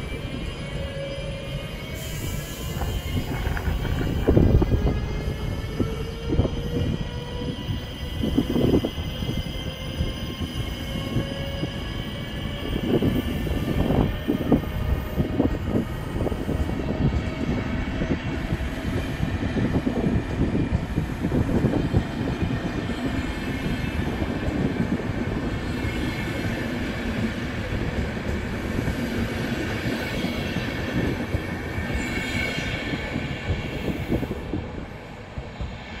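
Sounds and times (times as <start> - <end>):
faint rising locomotive whine: 0.0 - 36.0.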